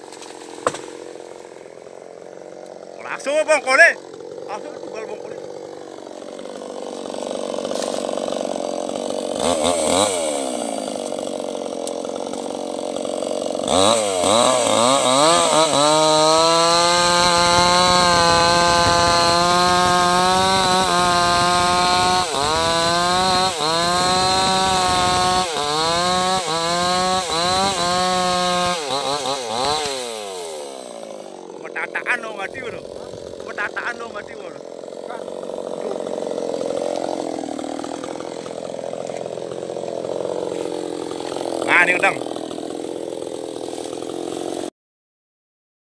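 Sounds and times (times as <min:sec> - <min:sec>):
chainsaw cutting wood: 0:00.0 - 0:44.7.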